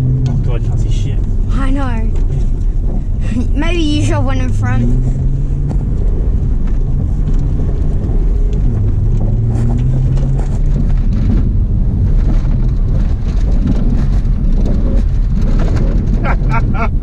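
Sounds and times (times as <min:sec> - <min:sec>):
car engine droning: 0:00.0 - 0:17.0
wind rumble on microphone: 0:00.0 - 0:17.0.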